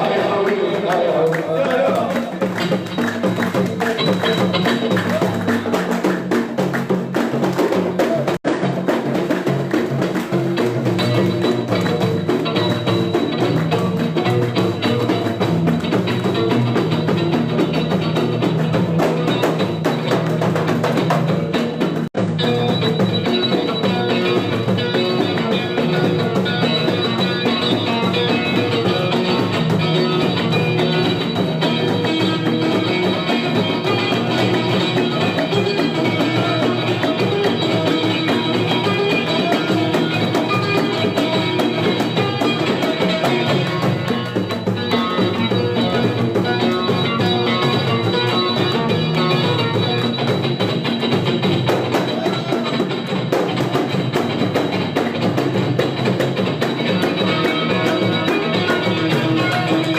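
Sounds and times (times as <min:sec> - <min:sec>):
music with drums and bass: 0:00.0 - 0:59.9.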